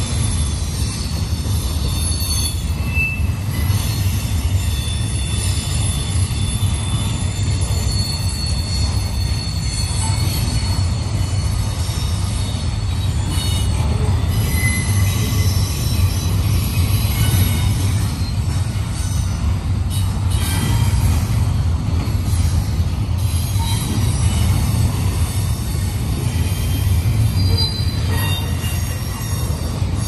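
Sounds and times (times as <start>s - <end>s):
high wheel squeals: 0.0s - 21.3s, 22.2s - 30.0s
freight train wheels rumbling on track: 0.0s - 30.0s.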